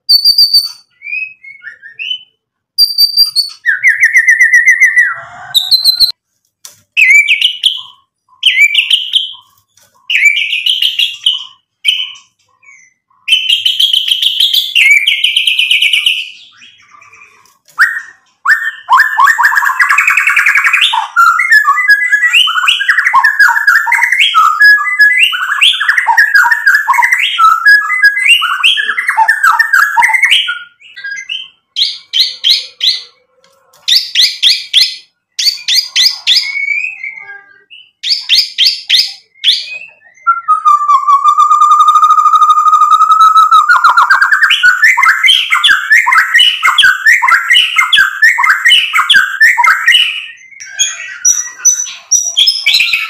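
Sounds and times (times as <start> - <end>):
songbird singing whistled phrases: 0.0 - 6.2, 6.9 - 33.1, 33.8 - 53.0.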